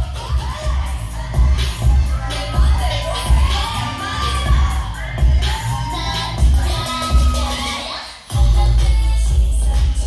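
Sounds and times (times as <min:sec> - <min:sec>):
heavy bass beat: 0:00.0 - 0:10.0
loud dance pop track: 0:00.0 - 0:10.0.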